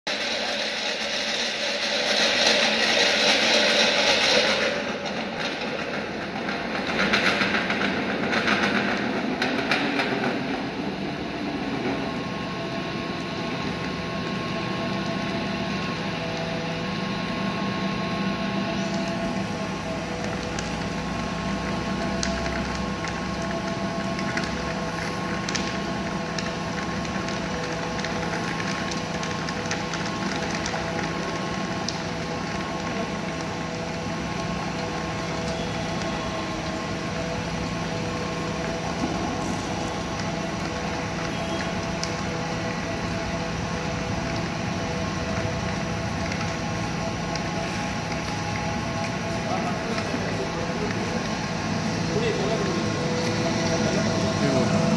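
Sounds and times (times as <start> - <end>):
electric grinding mill motor humming: 0.1 - 54.9.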